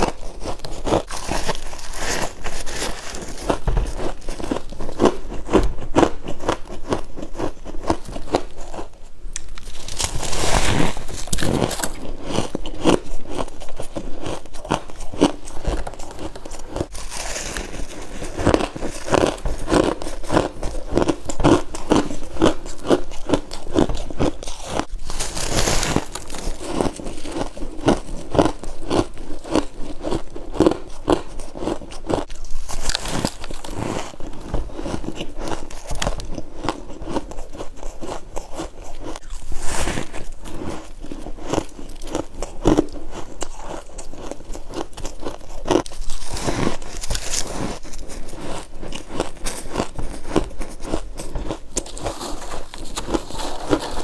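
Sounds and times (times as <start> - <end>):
chewing frost crunches: 0.0 - 54.0.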